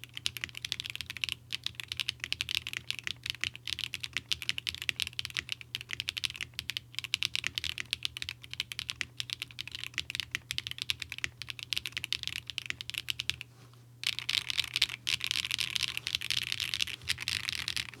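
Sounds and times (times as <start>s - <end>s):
mechanical keyboard typing: 0.2s - 13.4s, 14.0s - 18.0s.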